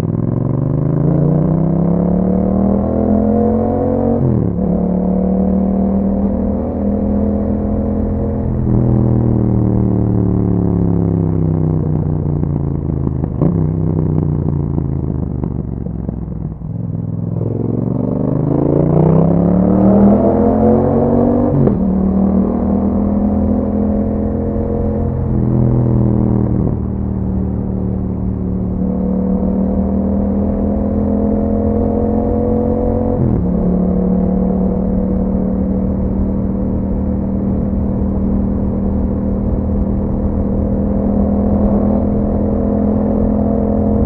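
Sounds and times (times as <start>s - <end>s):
motorcycle engine while riding: 0.0s - 44.0s.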